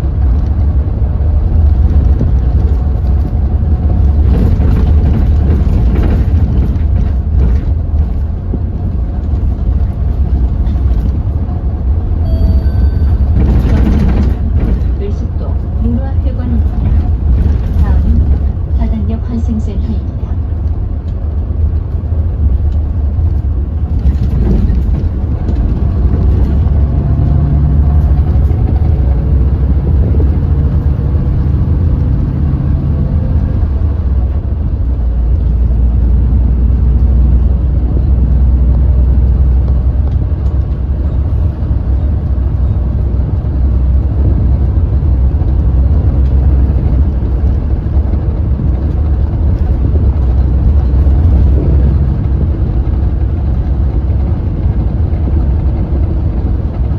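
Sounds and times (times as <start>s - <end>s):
bus engine droning: 0.0s - 56.9s.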